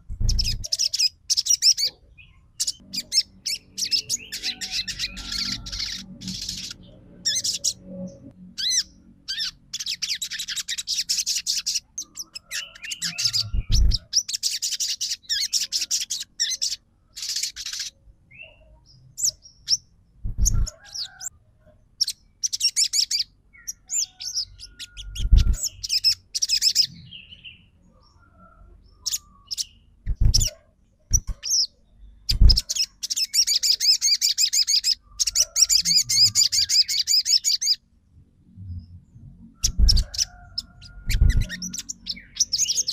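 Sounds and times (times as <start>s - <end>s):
bird chirps: 0.0s - 21.3s, 22.0s - 37.8s, 38.6s - 42.9s
bird trilling song: 0.0s - 21.3s, 22.0s - 37.9s, 38.6s - 42.9s.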